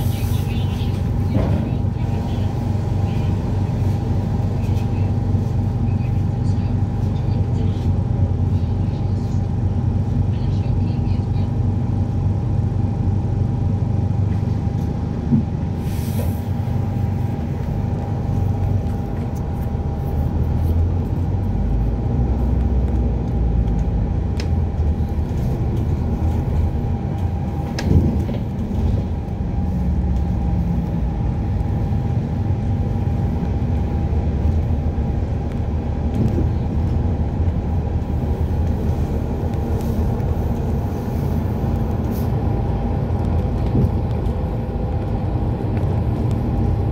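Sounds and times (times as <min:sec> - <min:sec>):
bus drivetrain and road rumble: 0:00.0 - 0:46.9.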